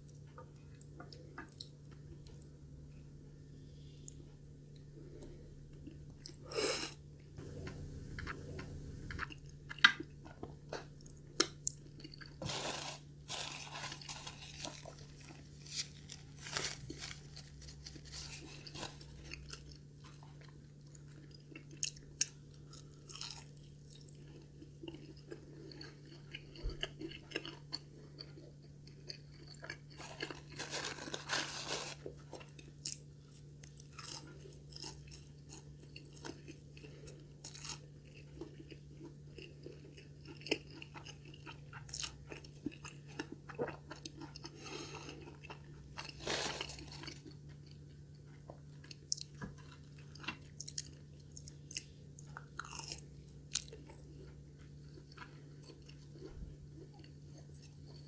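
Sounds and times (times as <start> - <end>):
chewing rice: 3.8 - 58.0
crunching crispy cutlets: 10.1 - 58.0.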